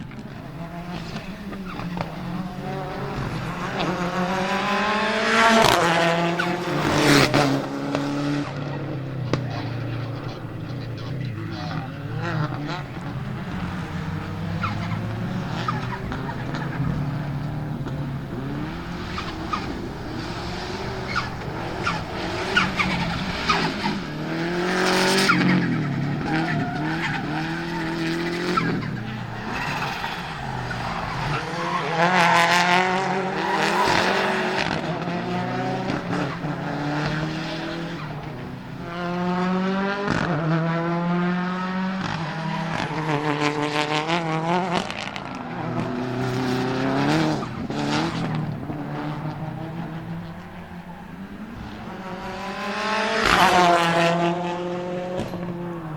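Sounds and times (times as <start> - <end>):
racing car engine revving: 0.0 - 55.9.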